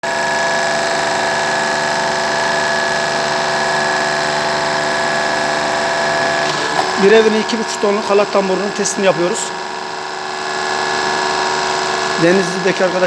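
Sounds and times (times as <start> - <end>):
winch drum machine whine: 0.1 - 13.0.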